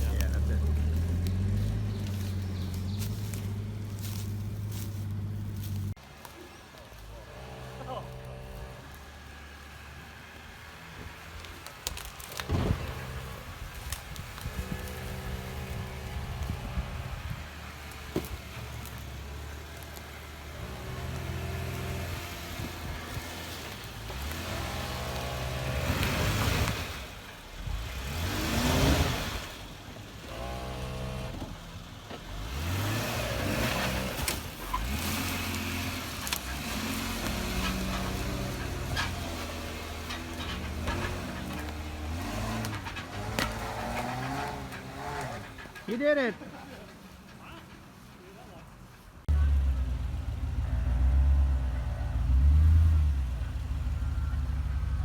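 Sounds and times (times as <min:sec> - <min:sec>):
engine running and revving: 0:00.0 - 0:45.9, 0:49.2 - 0:55.0.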